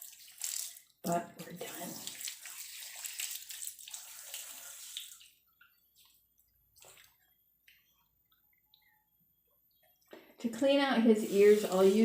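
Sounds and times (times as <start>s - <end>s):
water dripping: 0.0s - 12.0s
water running into bathtub: 0.0s - 12.0s.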